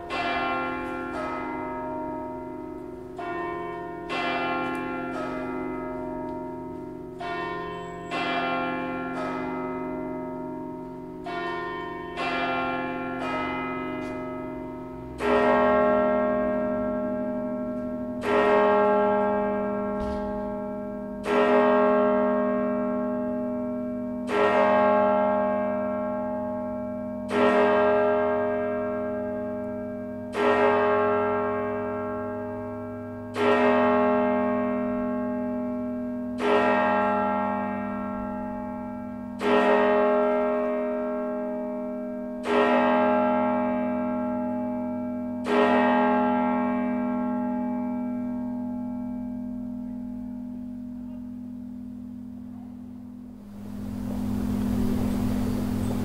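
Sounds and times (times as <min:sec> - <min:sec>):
church clock bell striking: 0:00.0 - 0:56.0.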